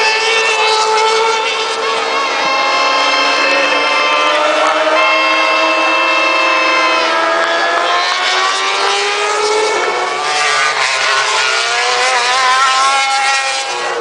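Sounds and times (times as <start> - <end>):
racing motorcycle engines revving: 0.0 - 14.0.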